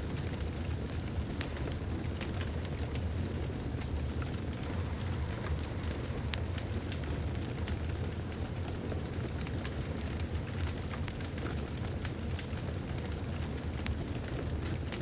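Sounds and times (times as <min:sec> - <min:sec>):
fire crackling and popping: 0:00.1 - 0:15.0
wood fire rumbling: 0:00.1 - 0:15.0.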